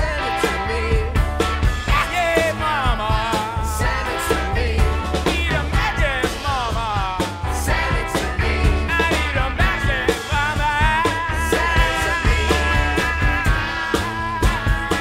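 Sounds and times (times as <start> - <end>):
drum beats: 0.0 - 15.0
rock band playing: 0.0 - 15.0
steady bass: 0.0 - 15.0.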